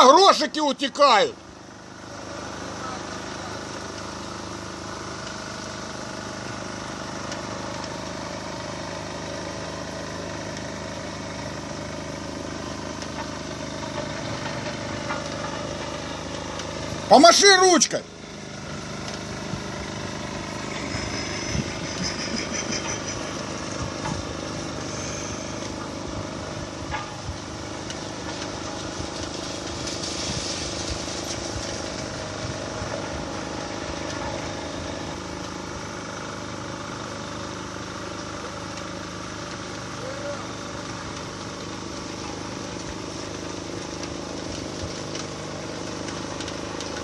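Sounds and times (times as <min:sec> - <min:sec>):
vehicle engine humming: 0:00.0 - 0:47.0.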